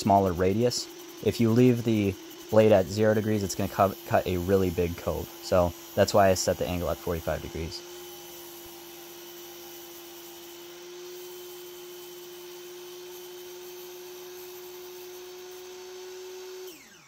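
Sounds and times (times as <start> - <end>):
miter saw whining: 0.0 - 17.0.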